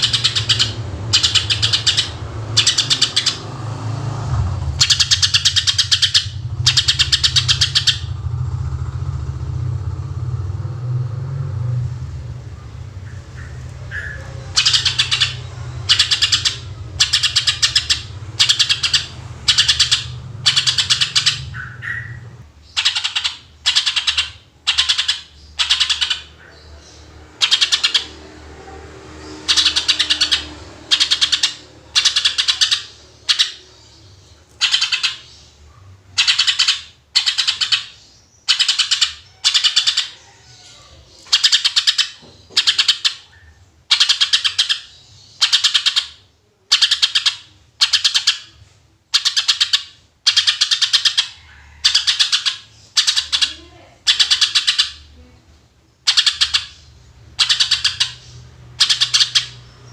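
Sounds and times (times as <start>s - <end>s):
bird singing in trilled bursts: 0.0s - 3.8s, 4.6s - 10.4s, 12.5s - 28.3s, 29.2s - 55.2s, 55.9s - 59.9s.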